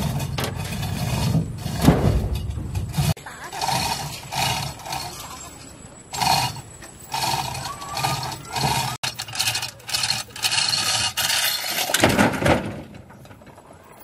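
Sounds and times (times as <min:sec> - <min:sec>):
hoist chain rattling: 0:00.0 - 0:12.1.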